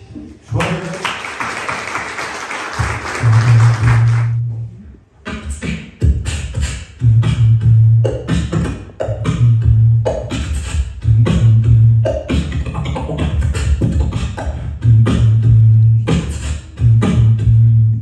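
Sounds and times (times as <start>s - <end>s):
person beatboxing: 3.2s - 18.0s.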